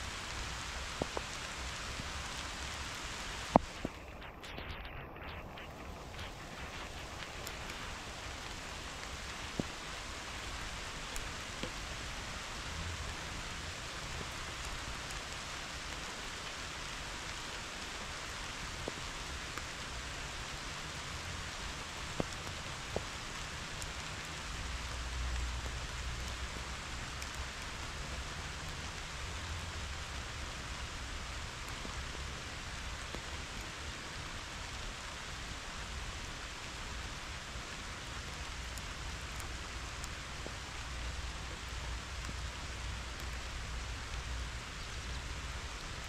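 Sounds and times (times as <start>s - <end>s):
rain falling on grass: 0.0s - 46.0s.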